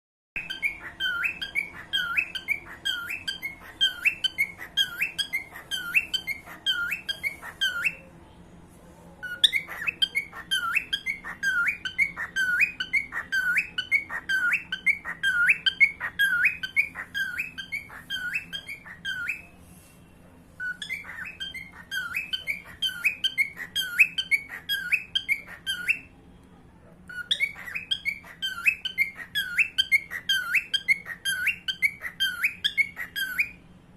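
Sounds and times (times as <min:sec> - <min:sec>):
cockatiel whistling: 0:00.4 - 0:08.1, 0:09.2 - 0:19.6, 0:20.6 - 0:26.1, 0:27.1 - 0:33.6.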